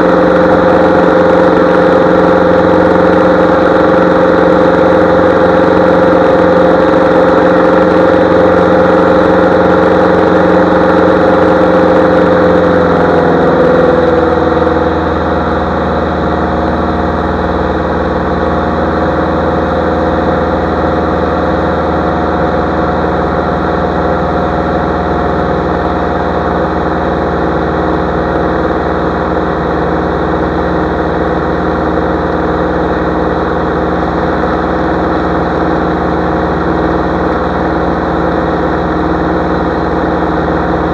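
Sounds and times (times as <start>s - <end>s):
light aircraft engine droning: 0.0s - 40.9s.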